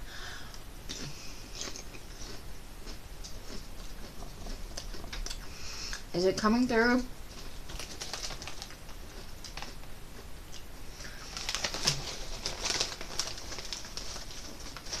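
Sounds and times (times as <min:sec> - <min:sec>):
person chewing crunchy chips: 0:00.4 - 0:06.1, 0:07.3 - 0:15.0.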